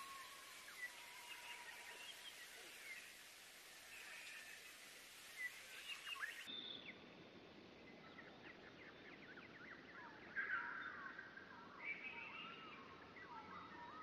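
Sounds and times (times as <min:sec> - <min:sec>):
soft background hiss: 0:00.0 - 0:13.4
wild birds chirping: 0:00.0 - 0:14.0.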